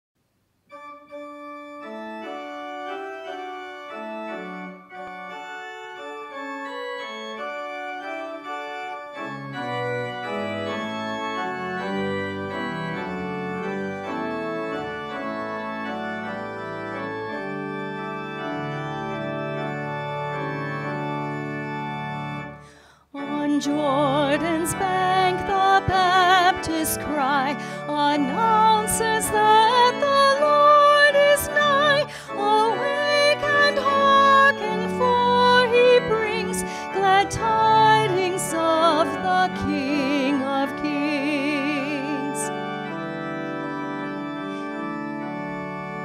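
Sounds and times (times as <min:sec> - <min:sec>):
organ playing slow chords: 0:00.5 - 0:46.0.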